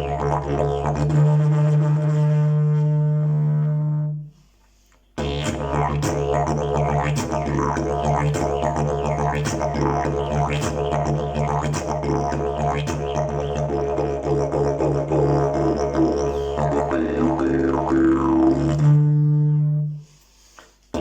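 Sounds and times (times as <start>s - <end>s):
didgeridoo drone: 0.0s - 4.1s, 5.2s - 19.9s.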